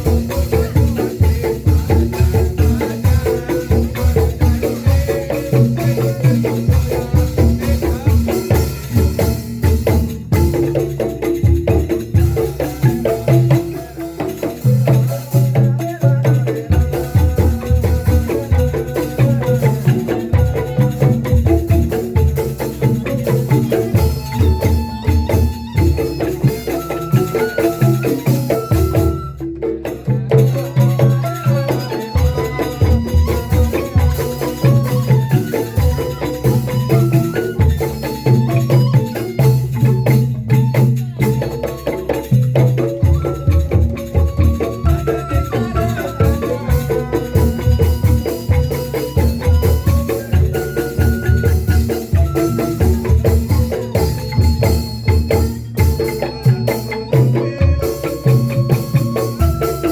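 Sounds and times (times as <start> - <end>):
pitched percussion melody: 0.0 - 59.9
rhythmic ensemble music: 0.0 - 59.9.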